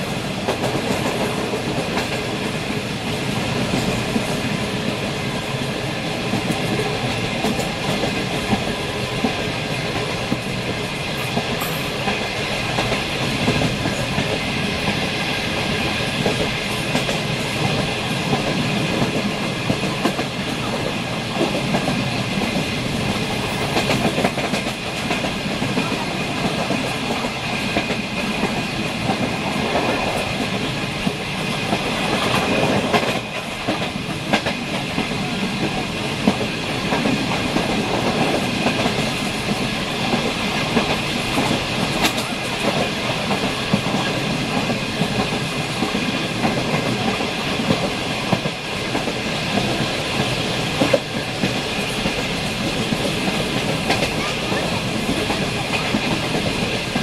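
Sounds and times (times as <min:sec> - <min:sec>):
rail joint clacks: 0:00.0 - 0:57.0
train wheels rumbling on track: 0:00.0 - 0:57.0.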